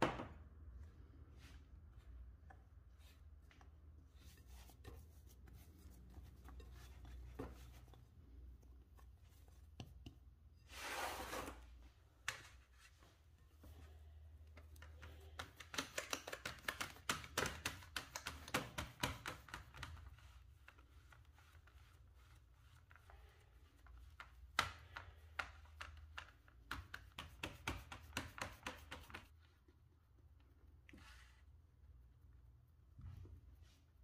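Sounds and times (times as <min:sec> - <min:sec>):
fingertips tapping dough: 0:02.0 - 0:10.6, 0:12.2 - 0:31.0.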